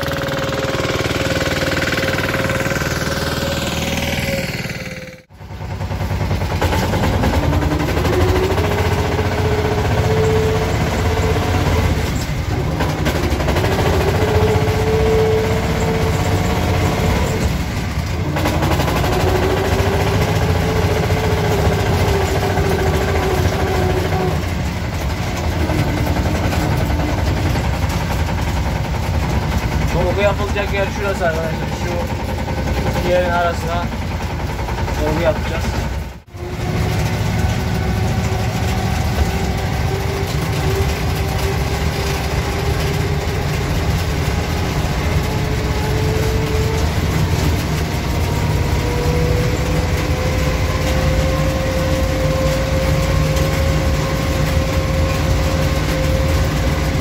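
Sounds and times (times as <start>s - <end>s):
small vehicle engine running: 0.0s - 57.0s.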